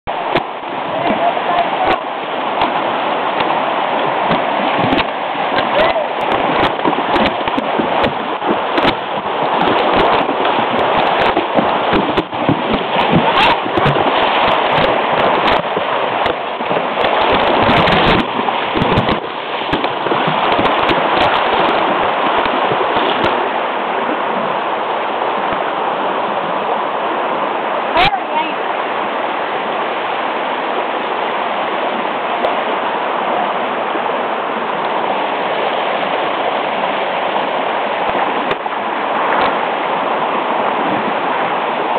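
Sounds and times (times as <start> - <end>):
creek water rushing: 0.1 - 41.9
horses splashing through water: 0.1 - 41.9.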